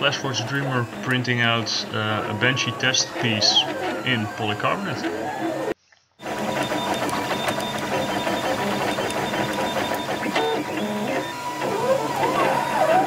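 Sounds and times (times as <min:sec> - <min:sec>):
printer steady hum: 0:00.0 - 0:13.0
stepper motors whining: 0:00.0 - 0:13.0.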